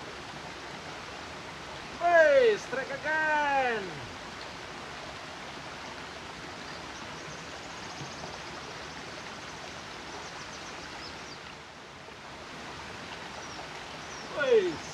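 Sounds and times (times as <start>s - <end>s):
stream running over stones: 0.0s - 14.9s.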